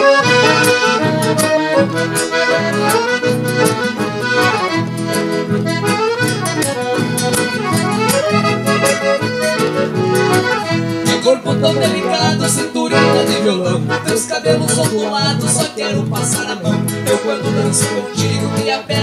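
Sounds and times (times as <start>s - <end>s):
accordion band music: 0.0s - 19.0s.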